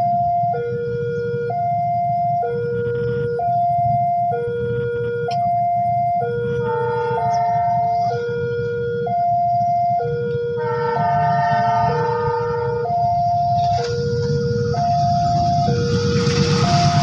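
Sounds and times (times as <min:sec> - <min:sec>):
second alarm: 0:00.0 - 0:17.0
steady low rumble: 0:00.0 - 0:17.0
two-tone warning siren: 0:00.0 - 0:17.0.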